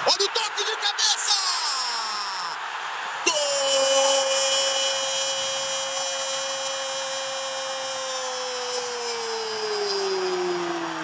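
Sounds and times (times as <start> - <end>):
commentator's long goal cry: 0.0 - 10.6.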